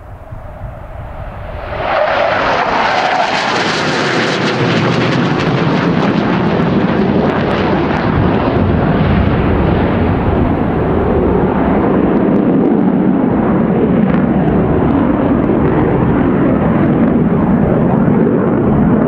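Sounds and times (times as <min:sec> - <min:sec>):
jet fighter roar: 0:00.0 - 0:19.0.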